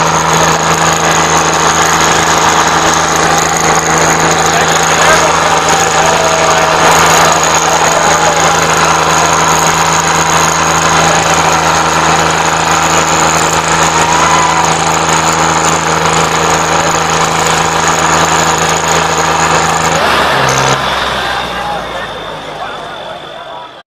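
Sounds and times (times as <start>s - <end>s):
tractor diesel engine straining: 0.0s - 23.8s.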